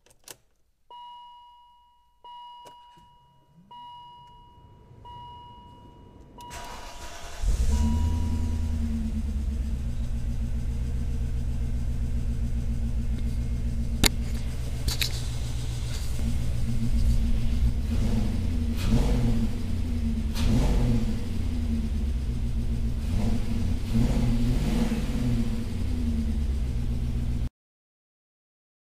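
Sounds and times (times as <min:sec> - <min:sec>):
car engine idling and revving: 0:03.6 - 0:27.5.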